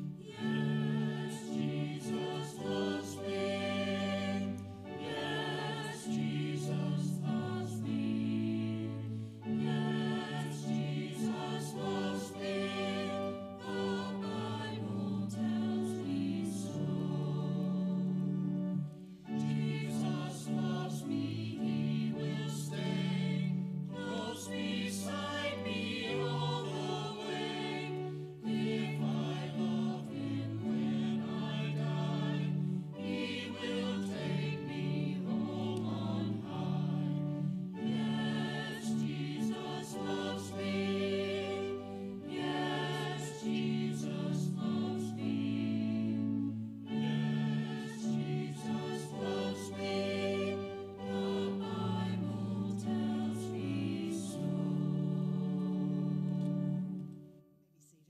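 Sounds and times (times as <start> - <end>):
sustained accompaniment: 0.0 - 57.3
choir singing church music: 0.0 - 58.0.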